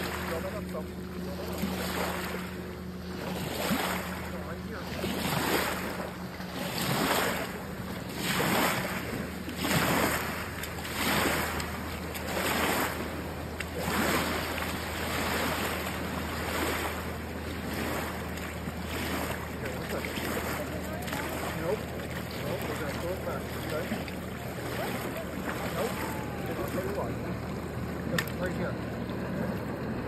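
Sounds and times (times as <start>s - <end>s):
small waves on gravel: 0.0s - 29.7s
low hum: 0.0s - 30.0s.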